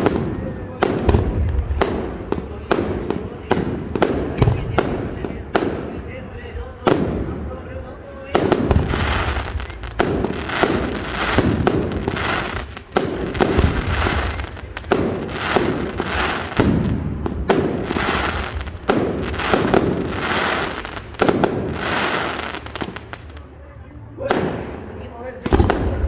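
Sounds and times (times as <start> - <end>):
fireworks crackle: 0.0 - 6.0, 8.4 - 23.5
fireworks bangs: 0.0 - 23.5, 24.3 - 26.0.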